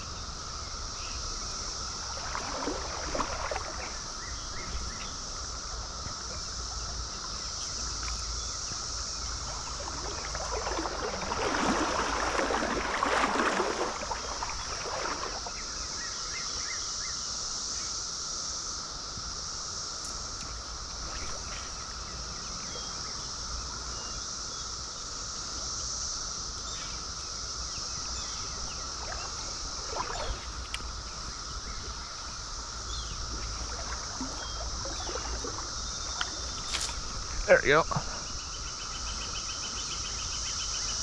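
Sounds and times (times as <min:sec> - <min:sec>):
cicadas droning: 0:00.0 - 0:41.0
running stream water: 0:00.0 - 0:41.0.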